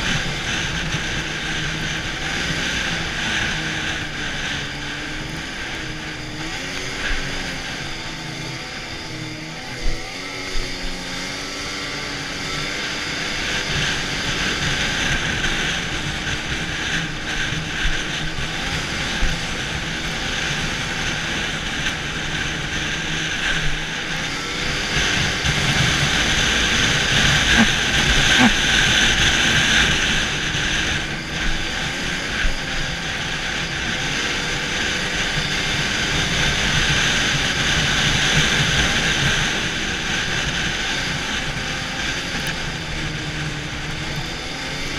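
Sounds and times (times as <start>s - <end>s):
snowmobile engine: 0.0s - 44.9s
track rushing noise: 0.0s - 44.9s.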